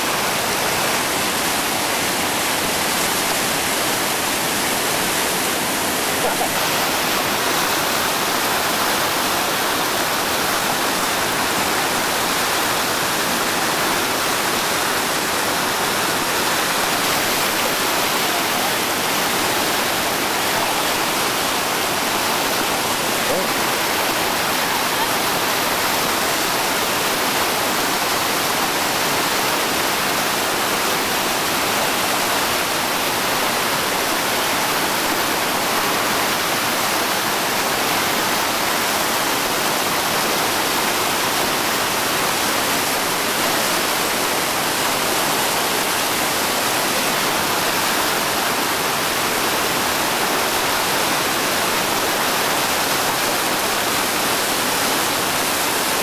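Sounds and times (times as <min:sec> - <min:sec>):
whitewater rapids rushing: 0:00.0 - 0:56.0.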